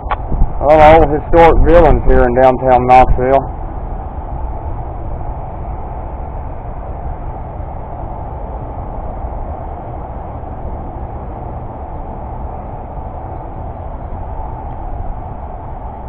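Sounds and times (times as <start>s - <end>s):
outdoor background rumble and hiss: 0.0s - 16.0s.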